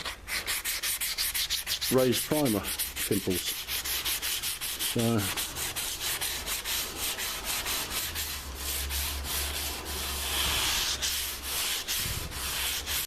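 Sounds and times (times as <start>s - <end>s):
sandpaper rubbing car paint: 0.0s - 13.0s.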